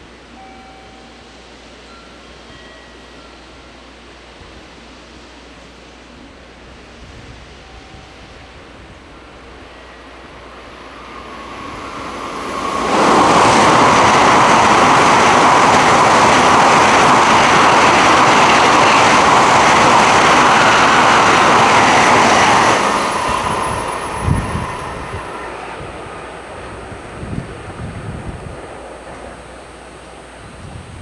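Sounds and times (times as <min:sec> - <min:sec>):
high-speed train passing: 0:00.0 - 0:31.0.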